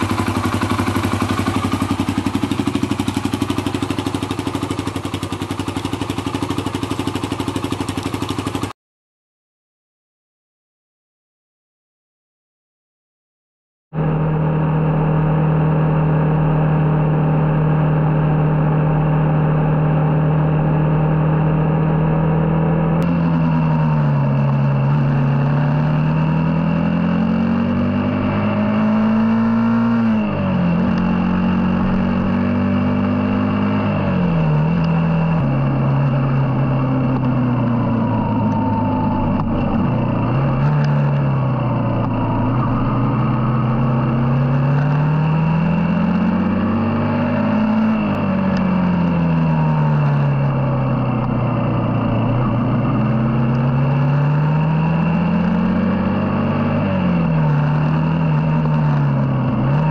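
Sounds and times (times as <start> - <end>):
motorcycle engine riding: 0.0 - 8.8, 13.9 - 59.9.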